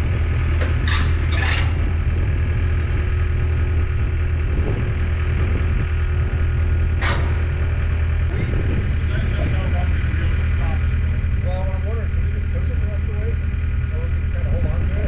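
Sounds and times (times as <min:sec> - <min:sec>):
large engine idling: 0:00.0 - 0:15.0.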